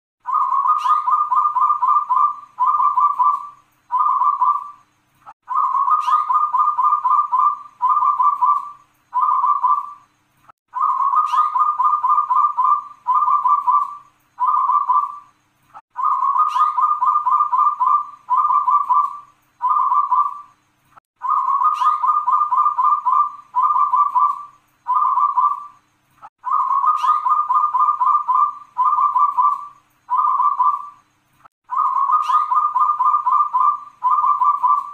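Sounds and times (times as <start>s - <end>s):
dove cooing: 0.2s - 4.8s, 5.5s - 10.0s, 10.7s - 15.3s, 15.9s - 20.5s, 21.2s - 25.8s, 26.4s - 31.0s, 31.7s - 34.9s.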